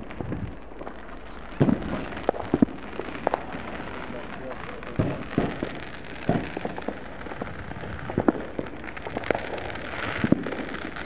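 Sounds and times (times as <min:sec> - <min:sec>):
distant fireworks pops and bangs: 0:00.0 - 0:11.0
faint hiss: 0:00.0 - 0:11.0.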